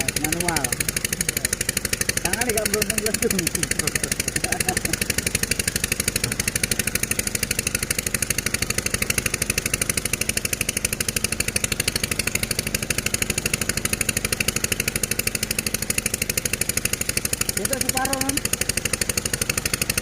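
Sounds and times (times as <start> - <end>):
diesel engine with knocking pulse: 0.0 - 20.0.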